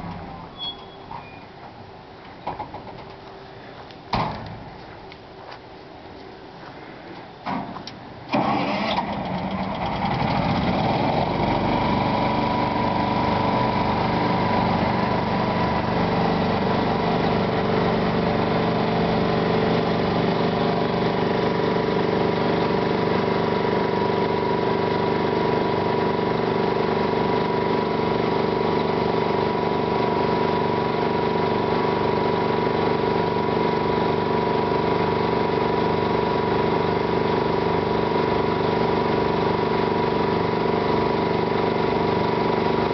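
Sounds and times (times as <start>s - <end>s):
pump engine running: 8.3s - 42.9s.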